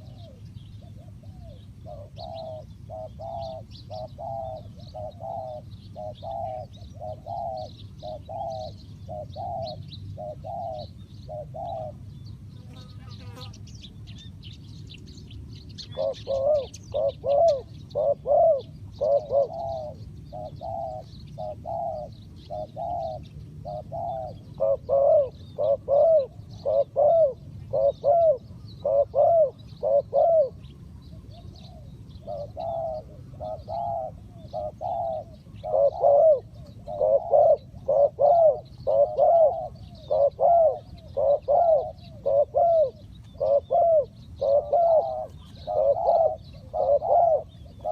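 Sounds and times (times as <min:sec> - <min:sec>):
dove cooing: 0:00.0 - 0:14.2, 0:15.8 - 0:47.9
small birds chirping: 0:00.0 - 0:47.9.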